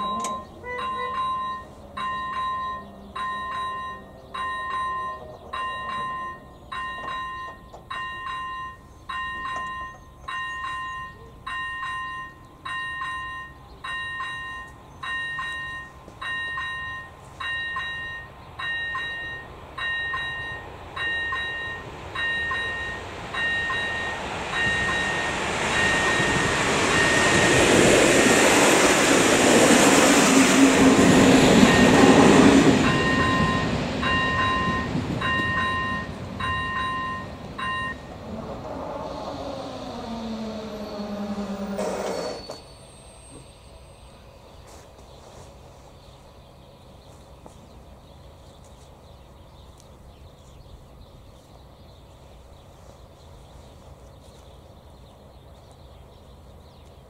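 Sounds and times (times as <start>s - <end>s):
approaching train: 0.0s - 57.0s.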